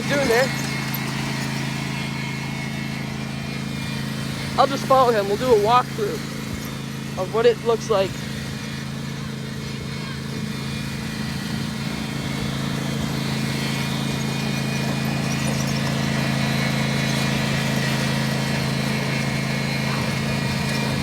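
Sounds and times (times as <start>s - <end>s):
riding lawn mower engine: 0.0s - 21.0s.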